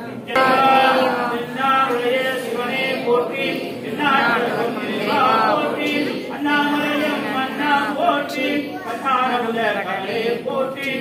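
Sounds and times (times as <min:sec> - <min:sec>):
voices singing devotional chant: 0:00.3 - 0:11.0.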